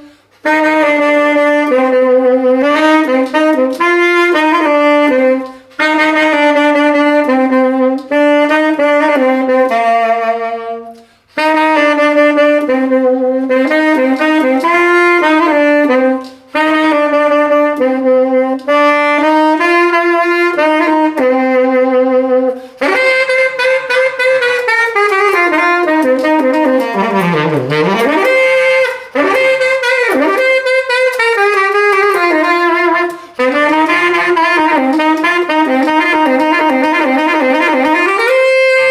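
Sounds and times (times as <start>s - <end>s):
saxophone jazz melody: 0.0s - 38.9s.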